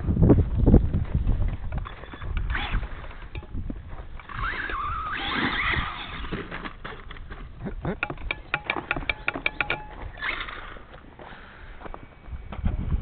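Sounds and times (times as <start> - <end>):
toy truck motor and tyres on sand: 0.3 - 13.0.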